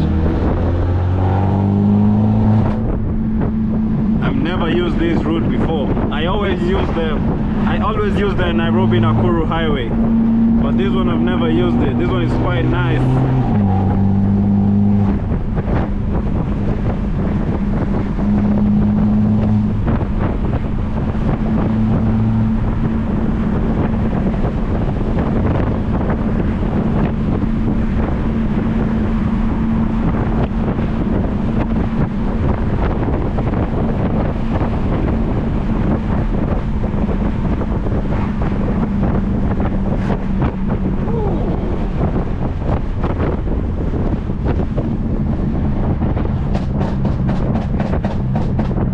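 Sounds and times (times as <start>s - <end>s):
car engine droning: 0.0s - 48.9s
wind and road noise: 0.0s - 48.9s.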